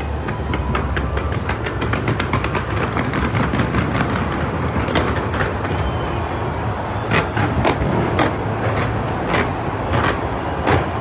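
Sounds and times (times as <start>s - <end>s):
fireworks bursting and crackling: 0.0s - 11.0s
sharp fireworks bangs: 0.0s - 11.0s.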